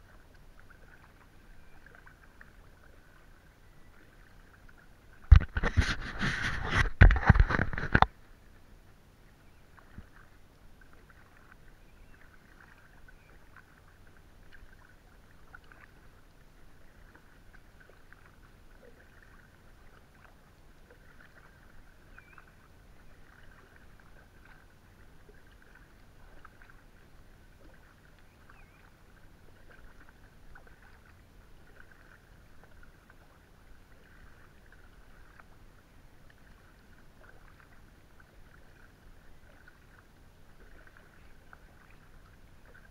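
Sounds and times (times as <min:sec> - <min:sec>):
low steady hum: 0:00.0 - 0:42.9
paddle splashing water: 0:00.0 - 0:42.9.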